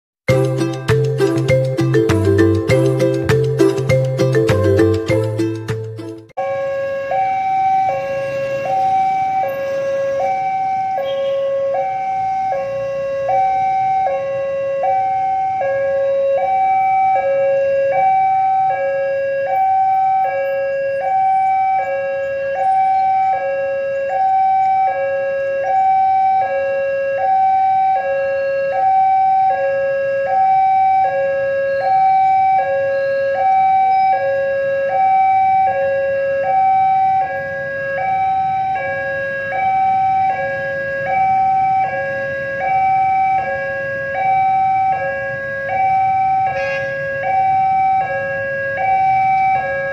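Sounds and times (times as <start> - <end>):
two-tone crossing alarm: 0.3 - 49.9.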